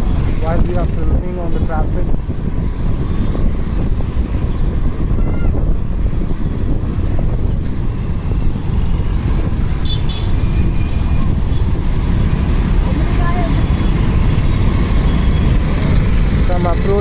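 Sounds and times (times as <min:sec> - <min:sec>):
motorcycle engine and road rumble: 0:00.0 - 0:17.0
wind rush: 0:00.0 - 0:17.0.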